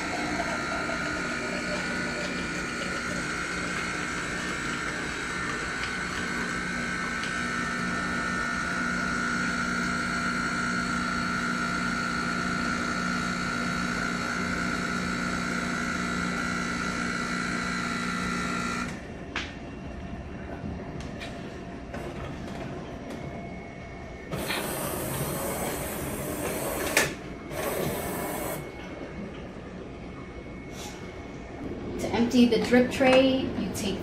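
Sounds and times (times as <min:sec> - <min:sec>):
espresso machine humming and whining: 0:00.0 - 0:31.8.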